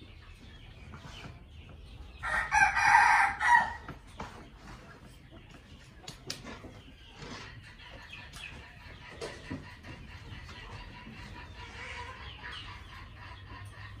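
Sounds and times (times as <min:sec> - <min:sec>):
cockerels clucking and calling: 0:00.0 - 0:14.0.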